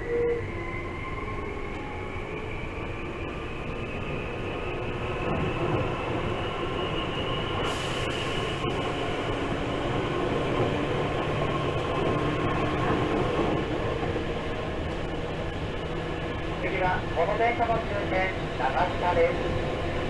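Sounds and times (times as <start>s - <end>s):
wheels rumbling on rail: 0.0s - 20.0s.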